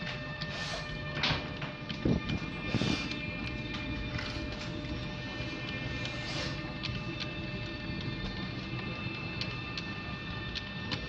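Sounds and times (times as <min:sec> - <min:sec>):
wheels clicking on rails: 0:00.0 - 0:11.0.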